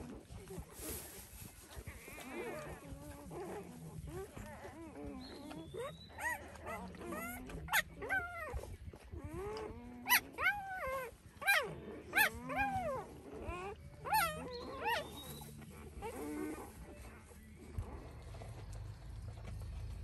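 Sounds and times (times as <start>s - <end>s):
puppies whining and squealing: 1.9s - 20.0s.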